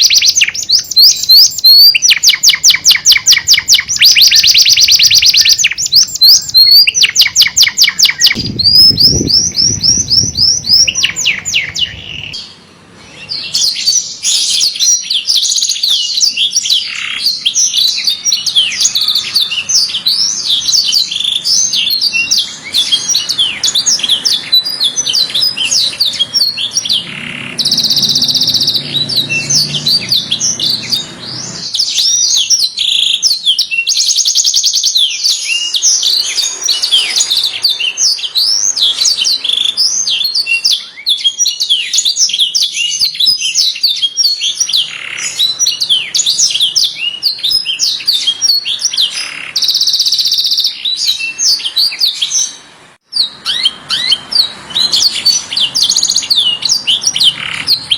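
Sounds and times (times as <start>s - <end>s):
canary song: 0.0s - 57.9s.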